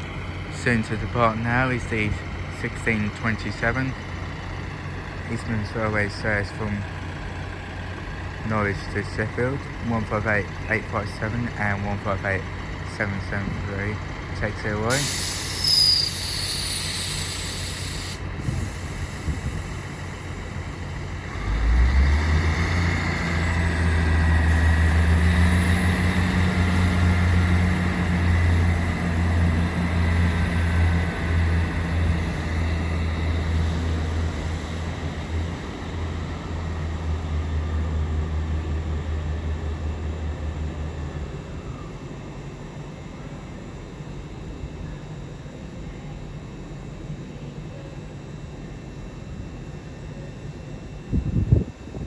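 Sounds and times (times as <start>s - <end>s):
diesel train engines droning: 0.0s - 52.0s.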